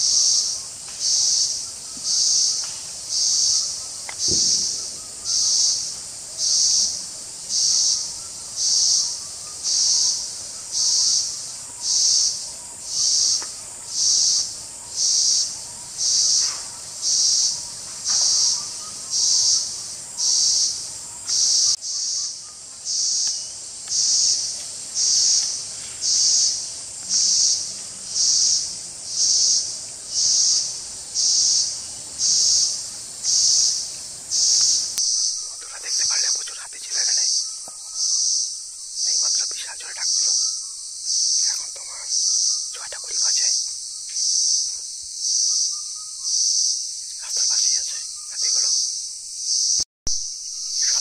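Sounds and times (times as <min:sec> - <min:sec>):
insect calling in pulses: 0:00.0 - 0:51.0.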